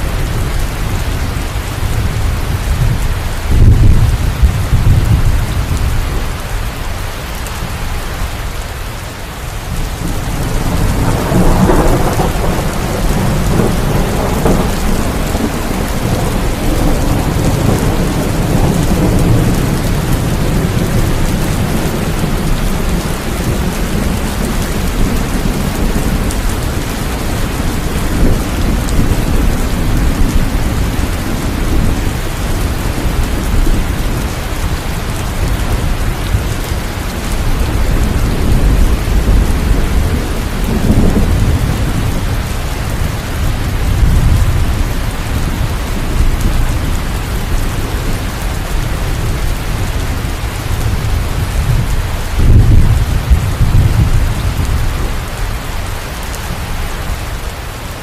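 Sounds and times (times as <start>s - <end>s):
rolling thunder: 0.0s - 6.4s, 9.6s - 55.2s
heavy rain: 0.0s - 58.0s.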